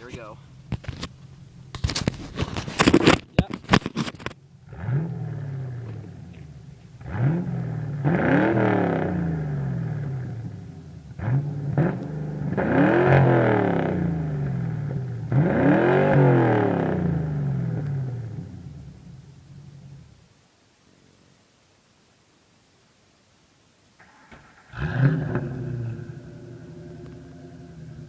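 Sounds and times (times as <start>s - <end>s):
car engine revving: 0.2s - 20.2s, 24.0s - 28.0s.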